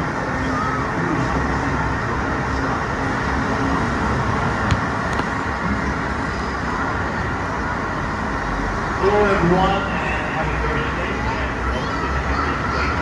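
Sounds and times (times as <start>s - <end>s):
tram running noise: 0.0s - 13.0s.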